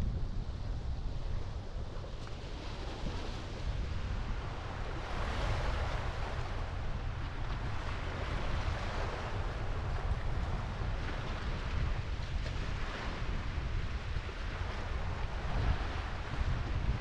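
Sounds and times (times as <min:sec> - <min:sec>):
surf washing on beach: 0:00.0 - 0:17.0
wind buffeting microphone: 0:00.0 - 0:17.0.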